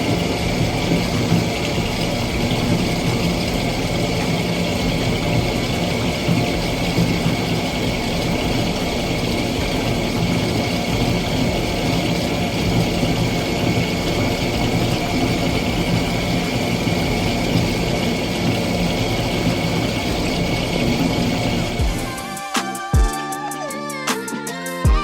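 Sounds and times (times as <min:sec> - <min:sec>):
constant rushing noise: 0:00.0 - 0:23.1.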